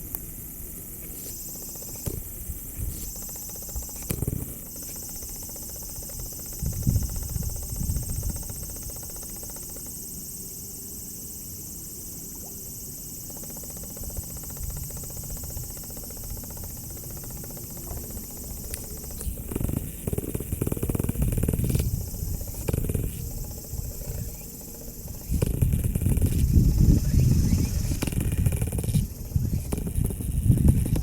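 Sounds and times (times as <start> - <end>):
crickets chirring: 0.0 - 31.0.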